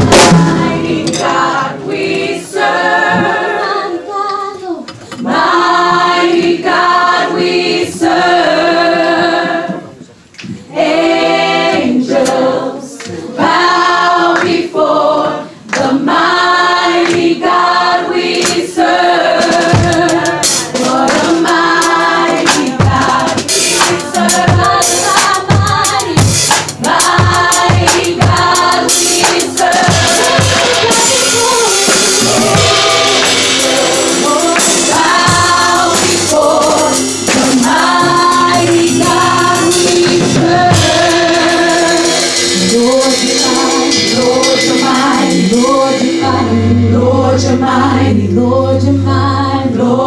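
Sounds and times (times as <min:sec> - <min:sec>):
drum kit beat: 0:00.0 - 0:03.8, 0:10.8 - 0:12.7, 0:13.4 - 0:47.8
group of voices singing: 0:00.0 - 0:50.0.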